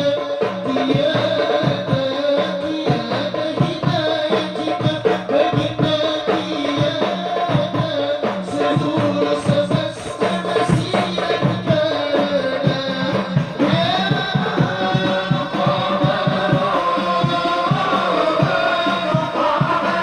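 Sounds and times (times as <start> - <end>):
devotional music with voices: 0.0 - 20.0
hand-drum and rattle percussion: 0.0 - 20.0.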